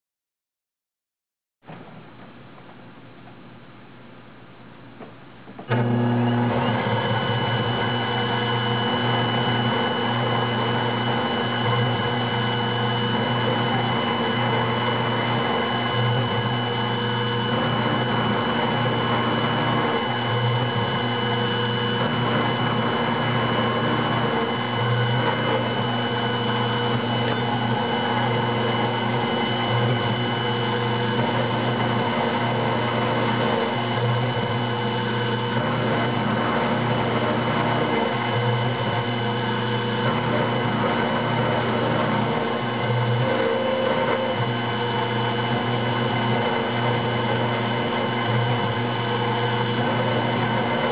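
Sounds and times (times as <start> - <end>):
low machine hum: 1.8 - 50.9
milling machine whine: 5.7 - 50.9.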